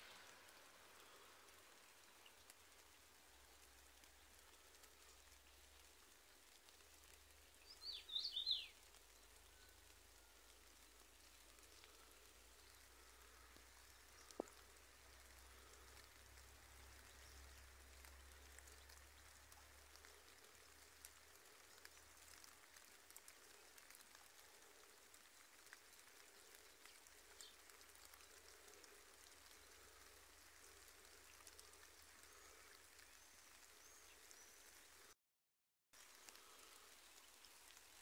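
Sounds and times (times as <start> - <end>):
light rain: 0.0 - 35.2, 35.9 - 38.0
raindrops ticking: 0.0 - 35.2, 36.0 - 38.0.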